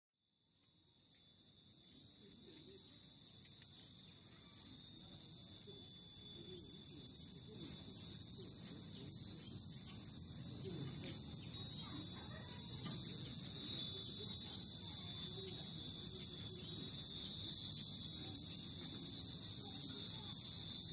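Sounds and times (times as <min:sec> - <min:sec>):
cicadas droning: 0:00.4 - 0:20.9
wind chimes tinkling: 0:01.0 - 0:20.9.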